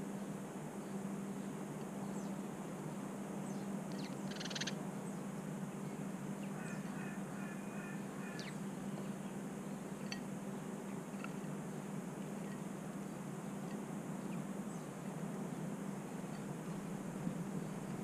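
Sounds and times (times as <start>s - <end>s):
steady low hum and hiss: 0.0s - 18.0s
small birds calling: 3.4s - 18.0s.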